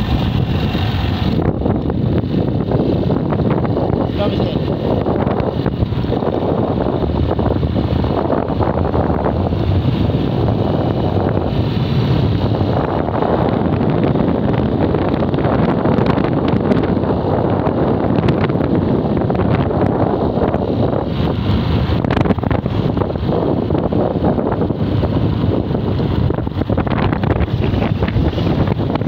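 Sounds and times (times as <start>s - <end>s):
vehicle running noise: 0.0s - 29.0s
wind rushing over microphone: 0.0s - 29.0s.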